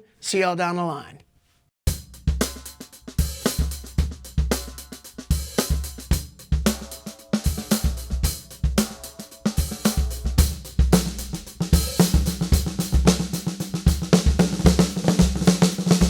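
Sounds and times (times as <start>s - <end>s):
drum kit groove: 1.9s - 16.0s.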